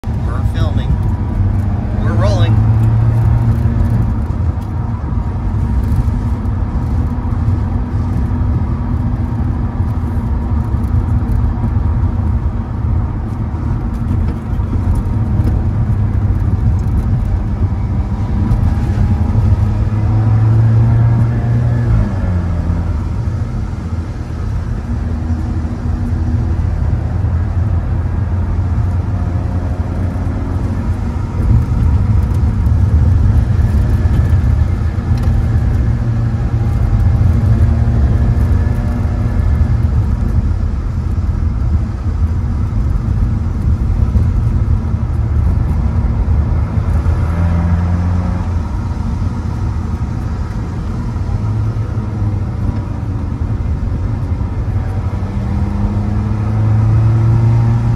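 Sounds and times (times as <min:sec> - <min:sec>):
car engine and exhaust: 0:00.0 - 0:57.9.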